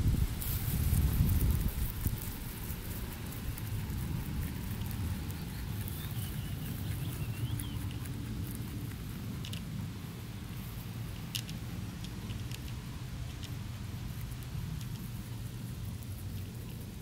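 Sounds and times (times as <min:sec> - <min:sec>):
low steady rumble: 0:00.0 - 0:17.0
rabbits chewing grass: 0:00.0 - 0:17.0.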